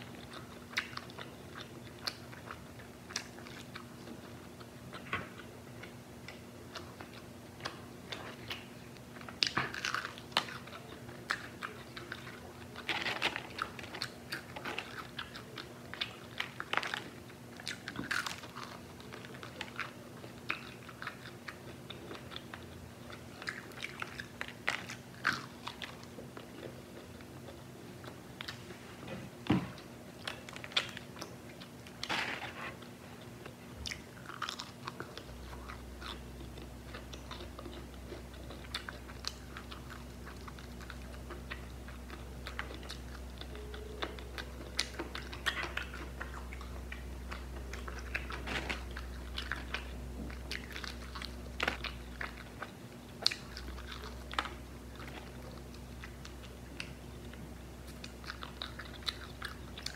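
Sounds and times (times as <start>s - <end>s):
crunchy chewing: 0.0s - 28.7s, 29.4s - 59.9s.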